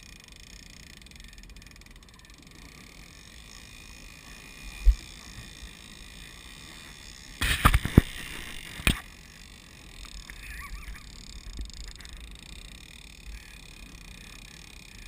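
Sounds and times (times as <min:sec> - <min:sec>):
wind and water noise: 0:02.4 - 0:15.0.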